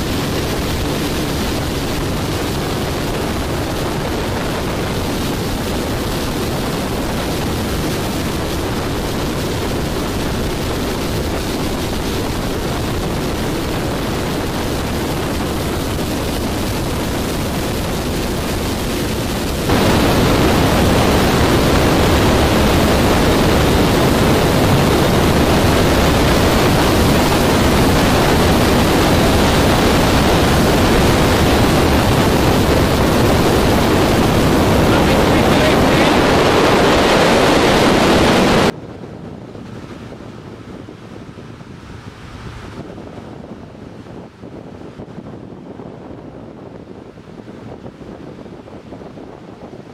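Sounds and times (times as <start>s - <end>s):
water wash from boat: 0.0s - 49.9s
wind on microphone: 0.0s - 49.9s.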